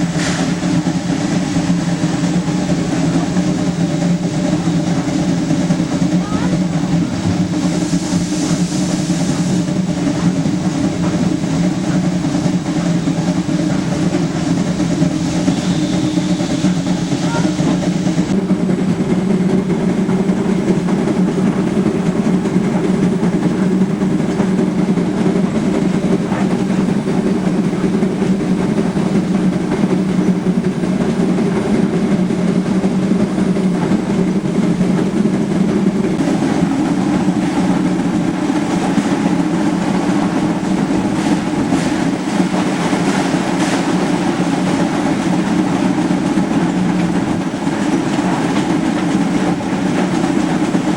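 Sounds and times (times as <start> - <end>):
steam locomotive rumbling: 0.0 - 50.9
train wheels on rails: 0.0 - 50.9.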